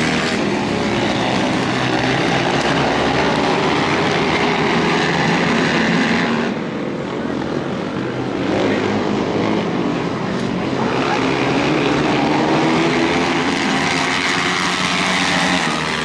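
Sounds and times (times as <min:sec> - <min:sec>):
motorcycle engines droning: 0:00.0 - 0:16.0.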